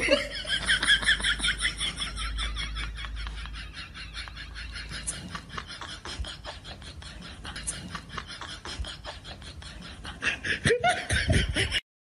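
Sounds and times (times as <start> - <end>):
person giggling: 0.0 - 11.8.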